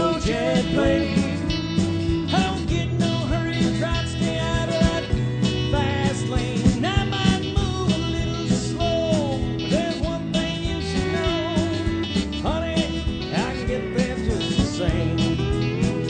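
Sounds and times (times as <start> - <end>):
bass: 0.0 - 16.0
guitar bending notes: 0.0 - 16.0
steady drum beat: 0.0 - 16.0.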